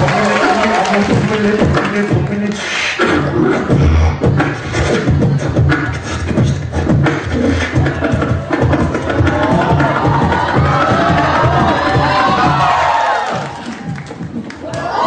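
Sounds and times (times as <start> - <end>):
person beatboxing: 0.0 - 12.7, 13.4 - 15.0.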